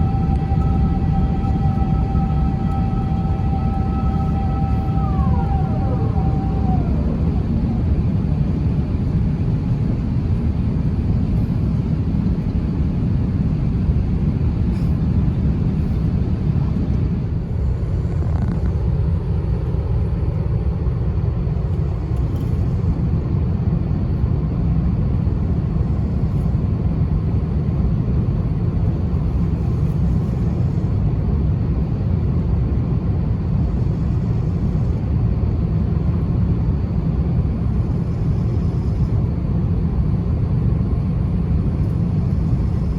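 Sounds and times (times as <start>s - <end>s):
airliner cabin rumble: 0.0s - 42.9s.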